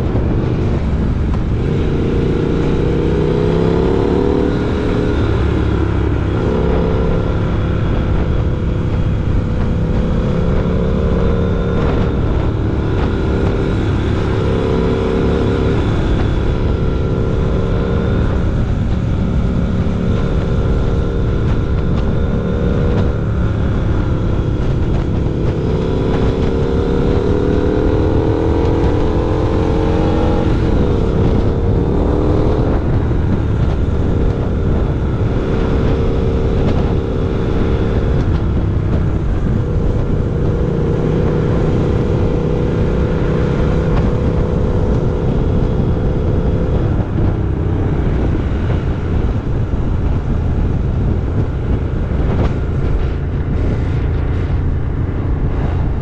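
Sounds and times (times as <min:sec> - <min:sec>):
motorcycle engine accelerating: 0:00.0 - 0:56.0
wind on microphone: 0:00.0 - 0:56.0.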